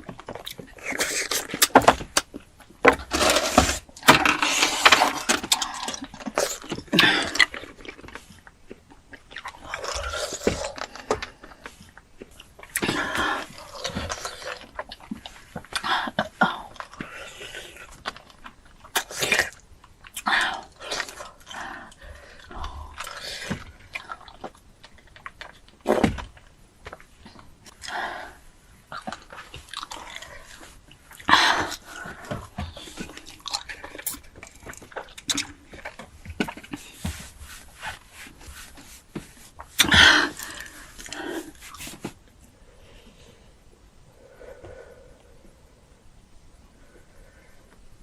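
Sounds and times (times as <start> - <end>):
crunching and chewing crisp food: 0.0 - 42.8.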